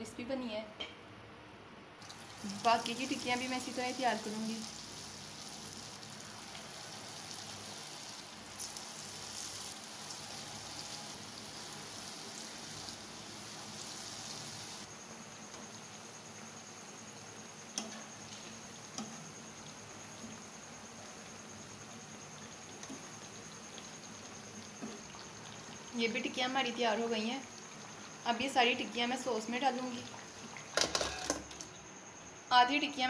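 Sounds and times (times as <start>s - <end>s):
food sizzling in hot oil: 2.0s - 32.0s.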